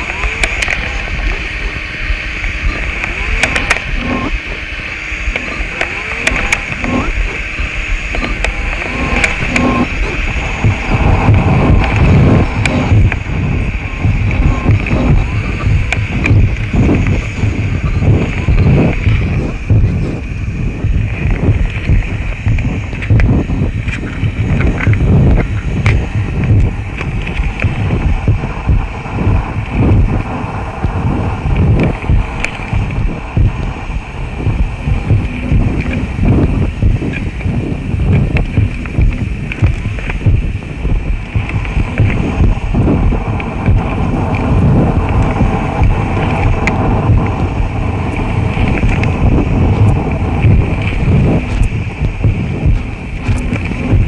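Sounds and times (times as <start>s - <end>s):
churning low rumble: 0.0s - 54.0s
sharp clicks and crackles: 0.0s - 54.0s.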